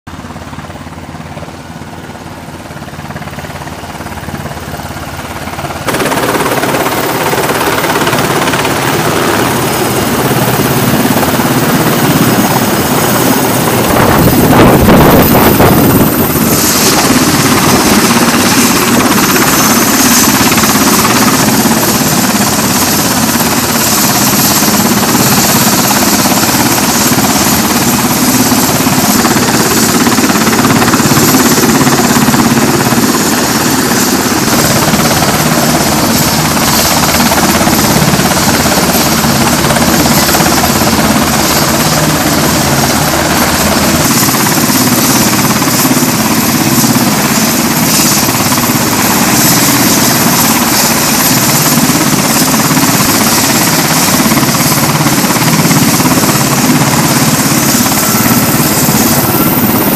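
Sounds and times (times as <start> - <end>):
helicopter rotor: 0.1 - 59.9
high turbine whine: 0.1 - 59.9.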